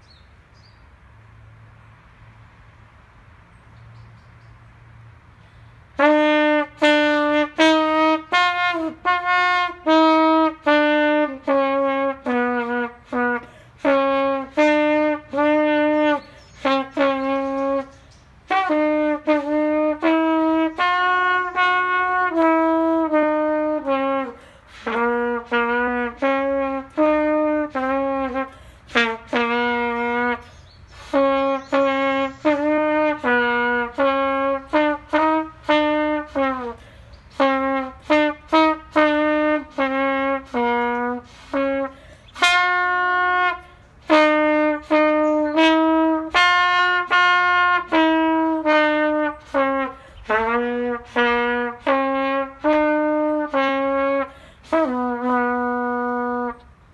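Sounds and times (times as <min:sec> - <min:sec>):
trumpet playing a melody: 0:05.9 - 0:56.9.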